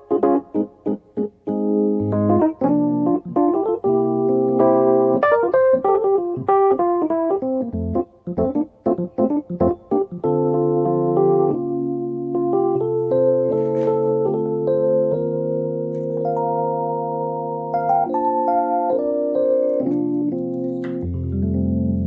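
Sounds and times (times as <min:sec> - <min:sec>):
electric piano music: 0:00.0 - 0:22.0.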